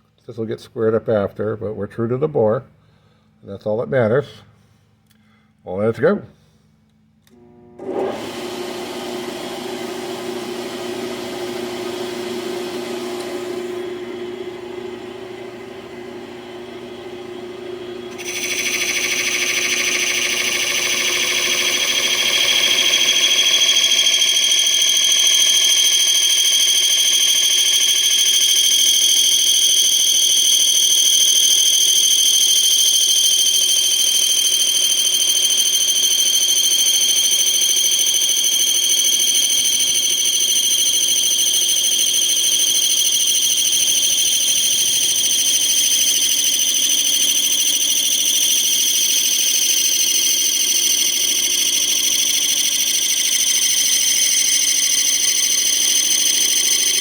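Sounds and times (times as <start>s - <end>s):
metal lathe whining: 7.8s - 57.0s.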